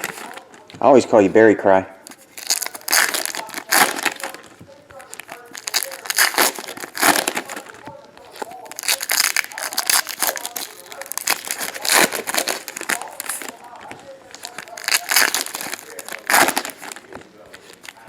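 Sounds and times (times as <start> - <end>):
foil wrappers crinkling and tearing: 0.0 - 18.0.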